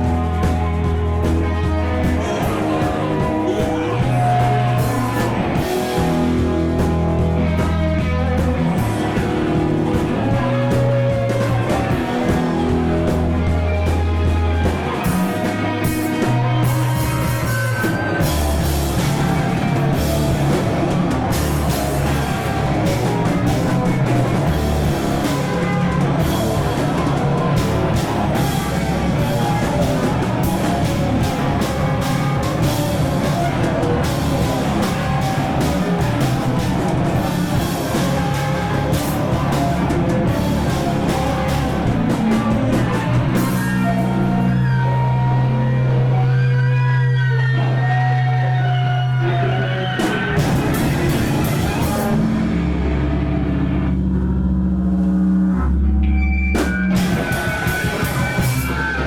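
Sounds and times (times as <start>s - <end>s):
drum kit: 0.0s - 46.8s, 47.8s - 59.0s
bass guitar: 0.0s - 59.0s
electric guitar: 0.0s - 59.0s.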